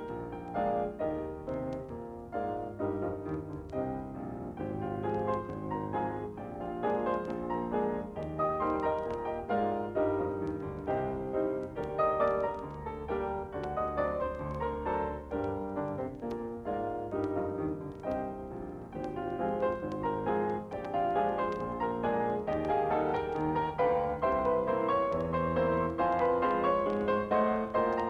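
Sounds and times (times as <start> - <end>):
piano music with quick notes: 0.0 - 28.0.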